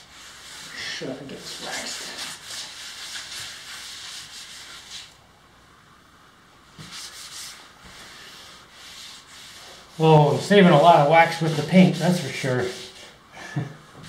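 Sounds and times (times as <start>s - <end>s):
pad rubbing wax: 0.0s - 5.2s, 6.7s - 13.2s.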